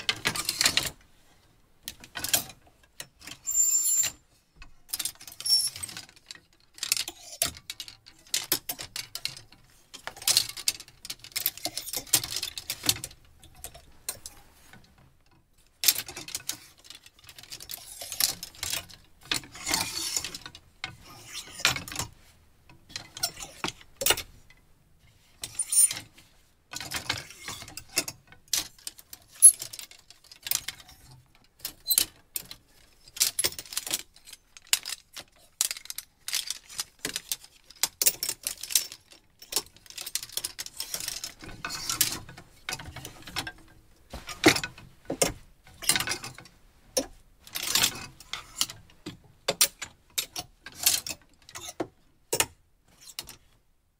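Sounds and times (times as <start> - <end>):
clothes hangers clattering: 0.0 - 1.0, 4.9 - 15.0, 15.8 - 24.3, 26.7 - 53.5.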